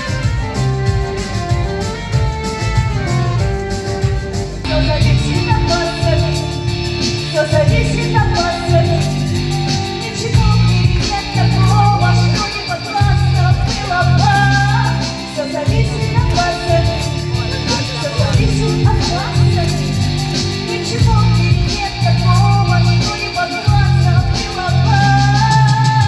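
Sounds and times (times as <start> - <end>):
instrumental accompaniment: 0.0 - 26.0
woman singing into microphone: 4.6 - 26.0.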